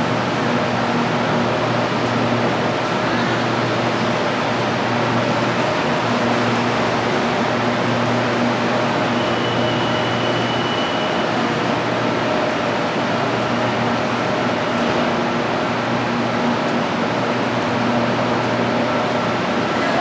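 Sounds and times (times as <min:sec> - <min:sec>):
train mechanical hum and rushing air: 0:00.0 - 0:20.0.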